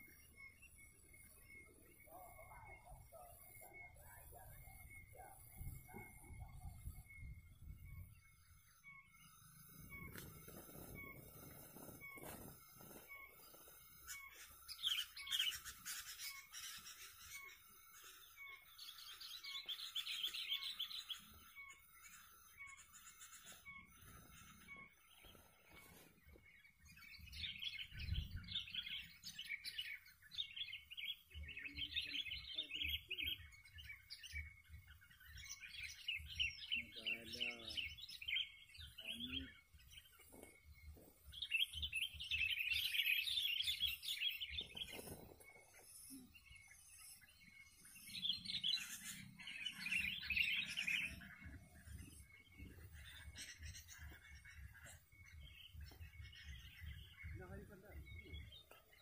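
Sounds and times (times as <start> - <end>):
bulbuls chattering chirps: 0.0 - 59.0.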